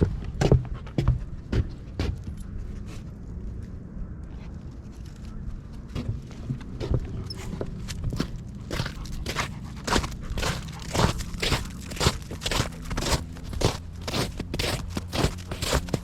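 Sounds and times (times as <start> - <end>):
footsteps on a trail: 0.0 - 3.6, 4.5 - 16.0.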